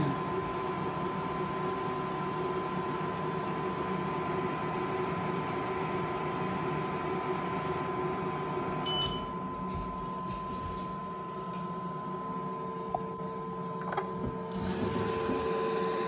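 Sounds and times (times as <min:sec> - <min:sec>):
laser engraver fan hum: 0:00.0 - 0:16.0.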